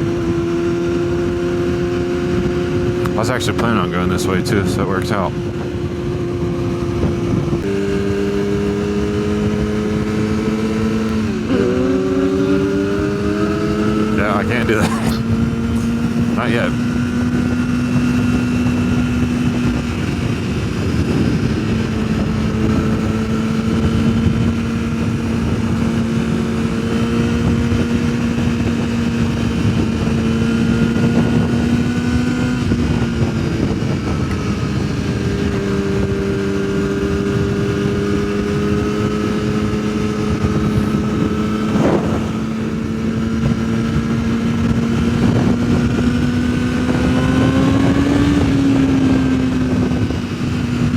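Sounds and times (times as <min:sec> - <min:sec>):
motorcycle engine cruising: 0:00.0 - 0:50.9
wind rush on microphone: 0:00.0 - 0:50.9.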